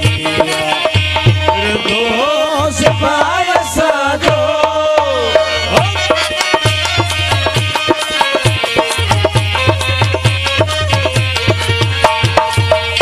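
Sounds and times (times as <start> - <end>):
hand drum beat: 0.0 - 13.0.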